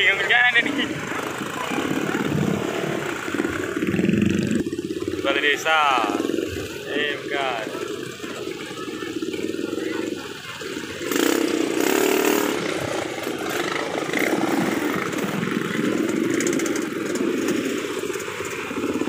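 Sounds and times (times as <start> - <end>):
scooter and motorcycle engines: 0.0 - 19.0.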